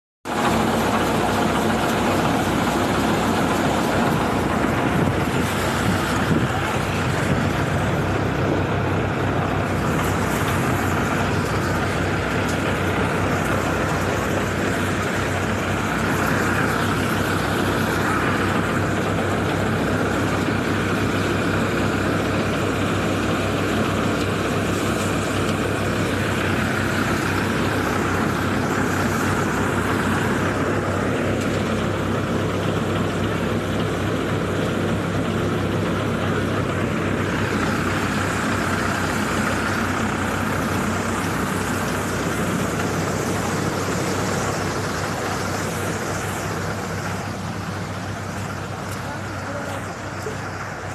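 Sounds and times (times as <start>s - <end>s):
threshing machine drone: 0.3s - 50.9s.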